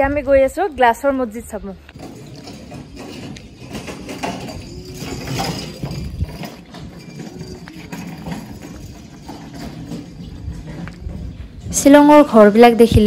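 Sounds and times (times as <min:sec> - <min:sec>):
footsteps on pavement: 0:01.8 - 0:13.0.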